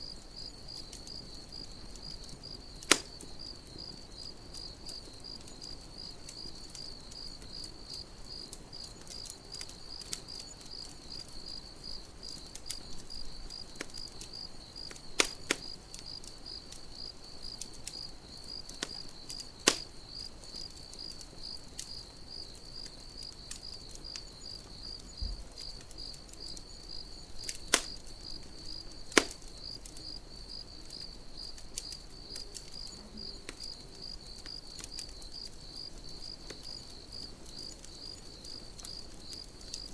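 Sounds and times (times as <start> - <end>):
cricket chirping: 0.0 - 39.9
campfire crackling and popping: 0.1 - 39.9.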